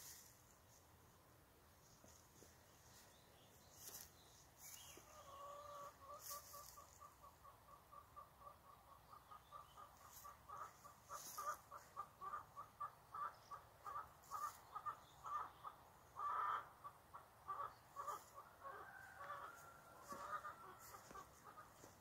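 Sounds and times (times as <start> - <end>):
chickens clucking: 3.7 - 22.0.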